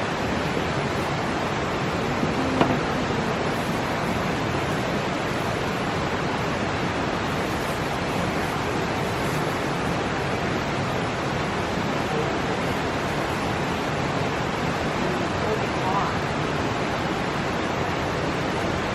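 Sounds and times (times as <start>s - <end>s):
steady rushing noise: 0.0s - 18.9s.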